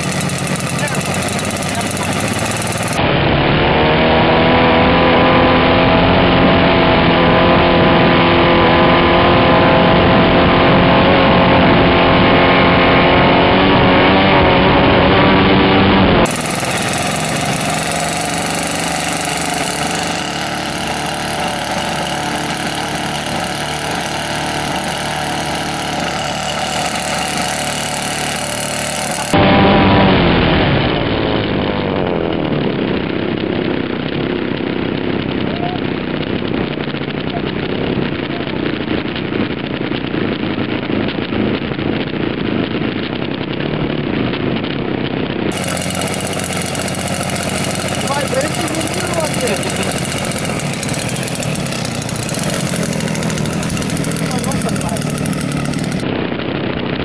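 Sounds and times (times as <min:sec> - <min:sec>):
model aircraft engine running: 0:00.0 - 0:44.1, 0:45.5 - 0:56.2.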